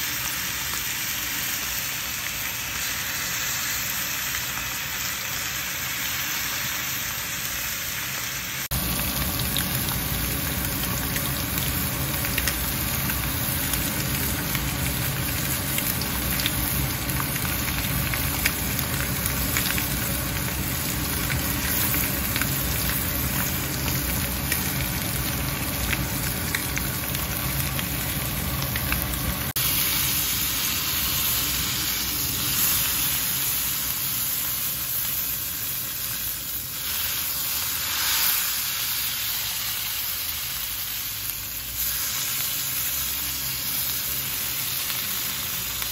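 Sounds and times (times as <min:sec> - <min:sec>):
steaks sizzling in pan: 0:00.0 - 0:45.9.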